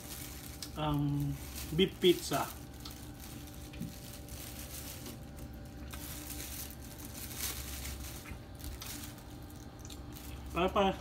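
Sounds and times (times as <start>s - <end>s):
plastic bag crinkling: 0.0s - 11.0s
steady low hum: 0.0s - 11.0s.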